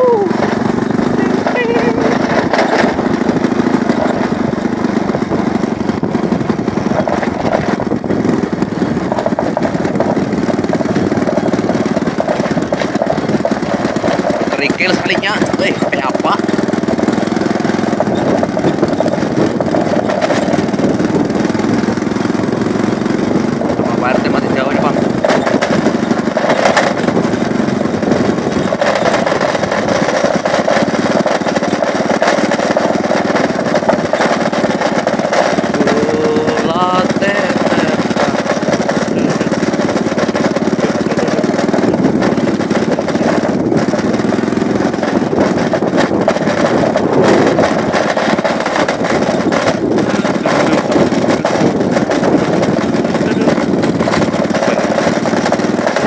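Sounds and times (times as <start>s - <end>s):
small motorcycle engine running: 0.0s - 56.0s.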